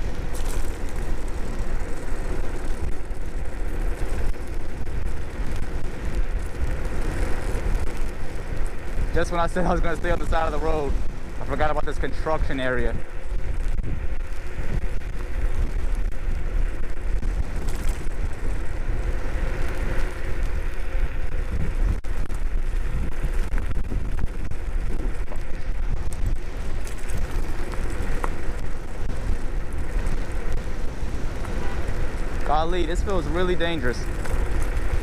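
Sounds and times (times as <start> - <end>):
electric scooter hum: 0.0 - 35.0
wind buffeting microphone: 0.0 - 35.0.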